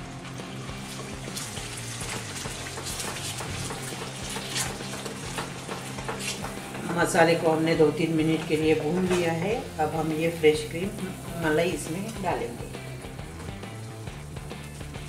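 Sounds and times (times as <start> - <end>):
paste sizzling in hot oil: 0.0 - 15.0
spatula stirring and scraping: 0.6 - 15.0.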